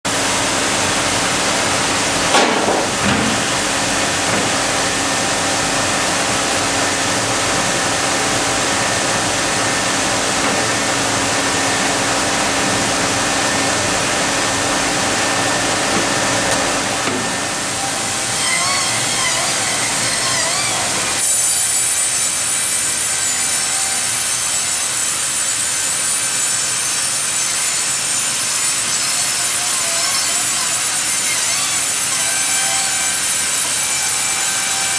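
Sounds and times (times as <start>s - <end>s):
bandsaw sawing logs: 1.2s - 34.9s.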